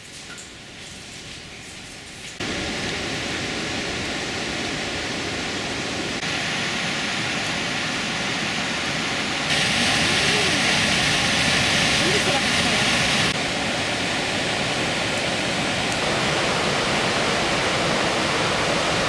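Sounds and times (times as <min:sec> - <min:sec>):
river rushing over waterfall: 0:02.4 - 0:19.0.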